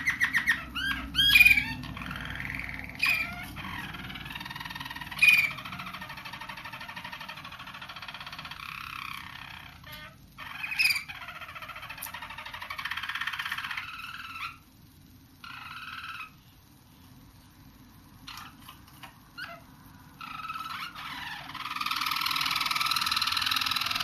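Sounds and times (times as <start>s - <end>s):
canaries singing trills: 0.0s - 24.0s.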